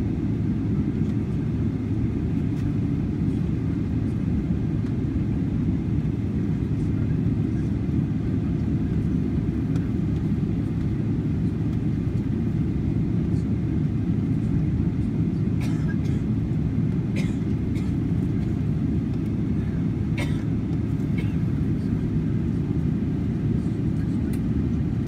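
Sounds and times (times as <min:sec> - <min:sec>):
aircraft cabin rumble: 0:00.0 - 0:25.0.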